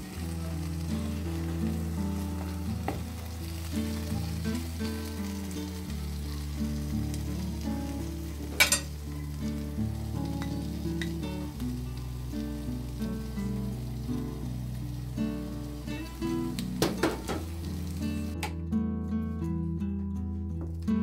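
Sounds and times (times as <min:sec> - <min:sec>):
omelette sizzling in a pan: 0:00.0 - 0:18.4.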